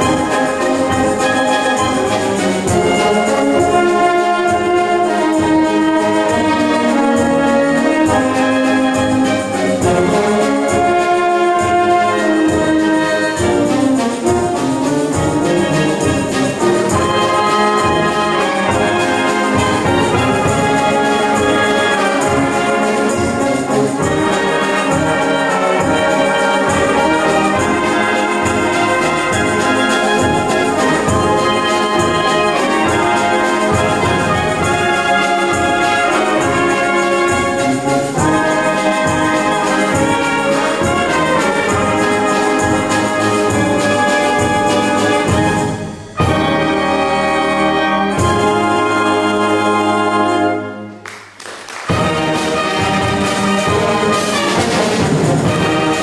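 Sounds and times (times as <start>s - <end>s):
wind band playing: 0.0s - 56.0s.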